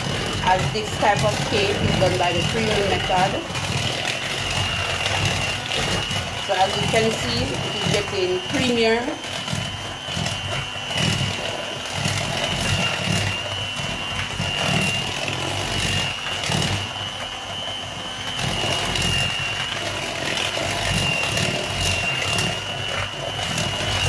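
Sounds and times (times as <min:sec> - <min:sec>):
electric hand mixer whining: 0:00.0 - 0:24.0.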